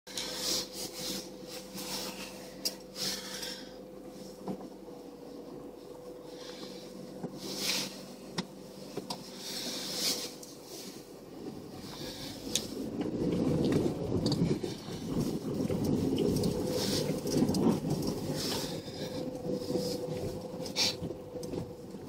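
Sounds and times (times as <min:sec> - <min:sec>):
van engine idling: 0:00.1 - 0:22.0.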